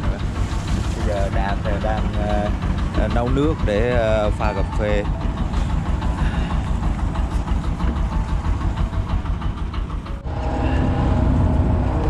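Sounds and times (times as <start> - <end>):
boat diesel engine rumbling: 0.0 - 12.0.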